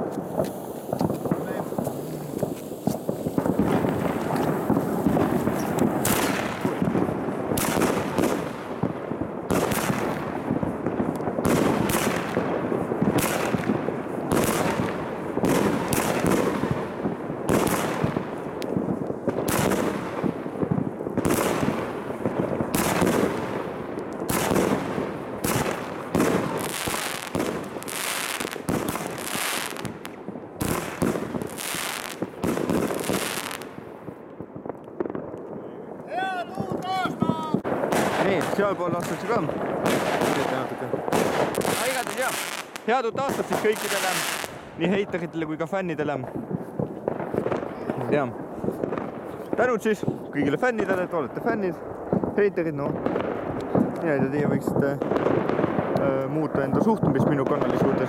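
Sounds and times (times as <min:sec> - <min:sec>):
fireworks launches and bursts: 0:00.0 - 0:58.0.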